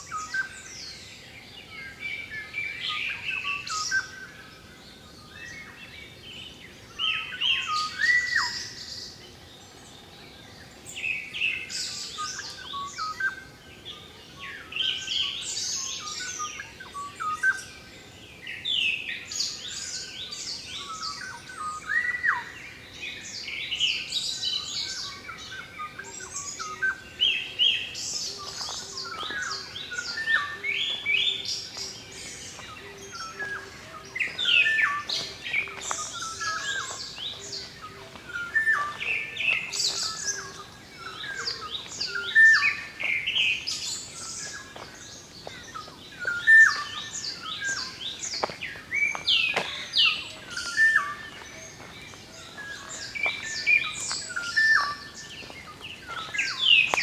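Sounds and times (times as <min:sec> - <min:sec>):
songbirds chirping and whistling: 0:00.0 - 0:57.0.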